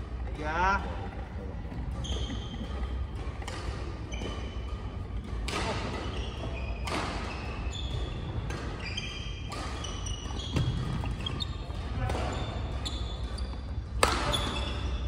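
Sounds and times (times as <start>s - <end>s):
rackets striking shuttlecock: 0.0s - 15.0s
shoes squeaking on wooden floor: 1.0s - 5.2s, 5.8s - 15.0s.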